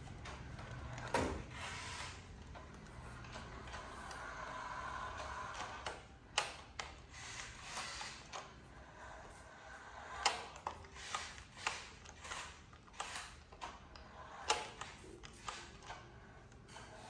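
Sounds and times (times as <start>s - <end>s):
toy car motor whirring: 0.2s - 17.0s.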